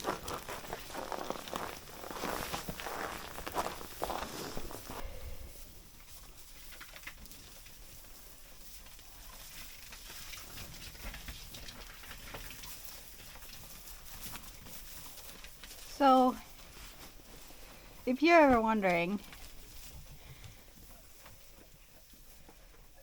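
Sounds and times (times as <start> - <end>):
faint crackling and rustling: 0.0 - 23.0.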